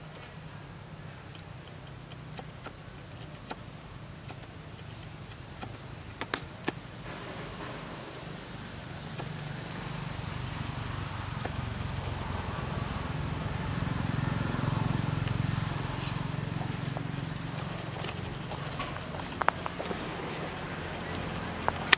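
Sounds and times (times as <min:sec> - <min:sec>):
vehicle engine rumble: 0:00.0 - 0:21.9.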